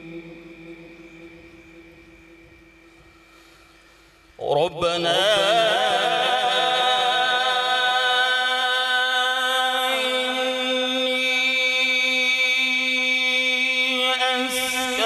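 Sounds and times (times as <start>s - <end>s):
man reciting melodically: 0.0s - 2.4s, 4.4s - 15.0s.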